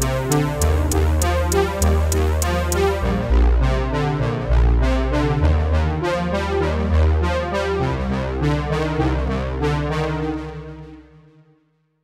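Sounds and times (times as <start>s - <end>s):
deep sustained bass line: 0.0s - 9.9s
synthesizer chords: 0.0s - 11.0s.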